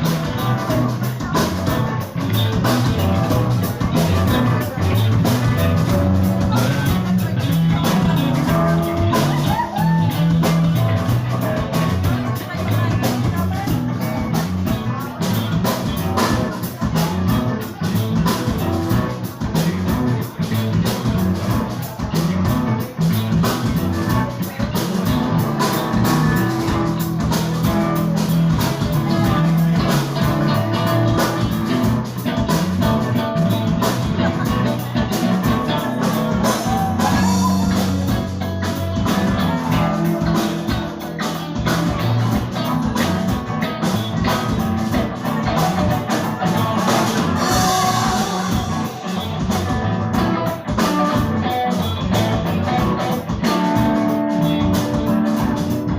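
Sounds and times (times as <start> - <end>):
rock music with drums and guitar: 0.0 - 55.9.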